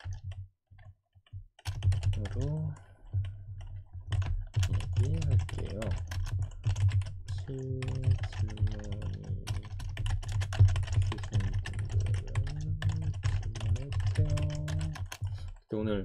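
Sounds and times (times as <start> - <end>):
rapid typing on computer keyboard: 0.0 - 15.7.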